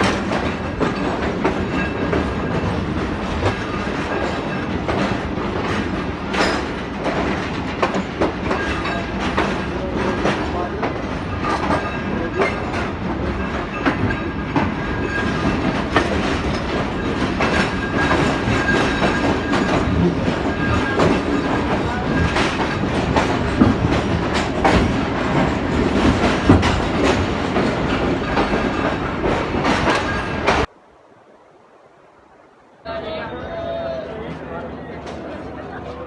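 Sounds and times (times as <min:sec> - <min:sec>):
train wheels clattering on rails: 0:00.0 - 0:30.7.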